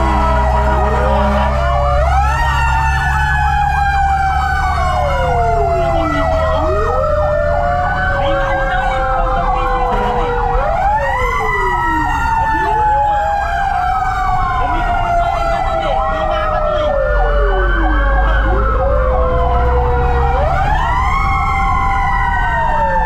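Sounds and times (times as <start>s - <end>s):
fire truck sirens wailing: 0.0s - 23.0s
truck engine and road rumble: 0.0s - 23.0s
warbling siren yelp: 0.0s - 23.0s.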